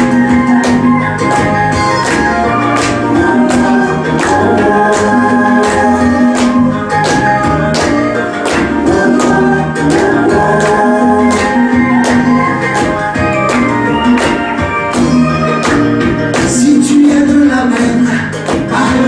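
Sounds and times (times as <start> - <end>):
upbeat backing music: 0.0 - 19.0.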